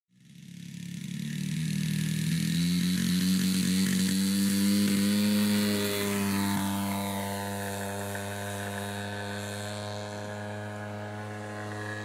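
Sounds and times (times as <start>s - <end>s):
model plane two-stroke engine: 0.1s - 12.0s.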